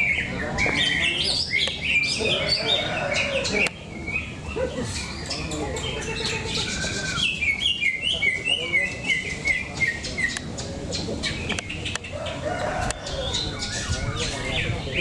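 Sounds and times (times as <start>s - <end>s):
sharp clicking bird calls: 0.0s - 2.4s, 3.2s - 14.5s
high chirping birdsong: 0.0s - 15.0s.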